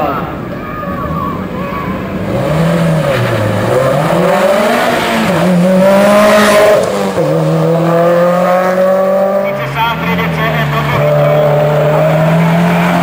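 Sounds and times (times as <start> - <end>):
rally car engine accelerating: 2.1 - 13.0.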